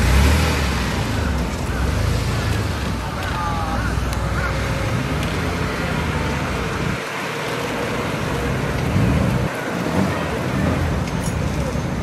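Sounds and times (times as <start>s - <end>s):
car engine driving by: 0.0s - 11.8s.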